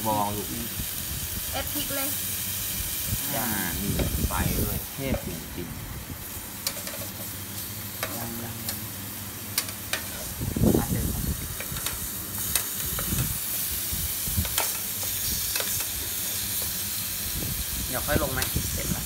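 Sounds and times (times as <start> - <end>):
ham sizzling in a pan: 0.0 - 19.0.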